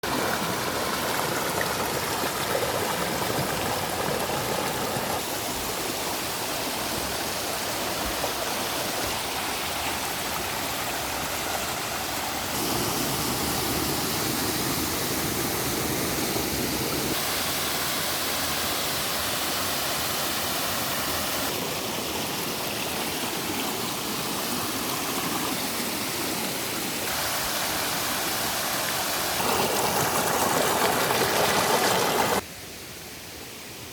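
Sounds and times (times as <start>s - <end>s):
stream rushing over rocks: 0.0s - 32.5s.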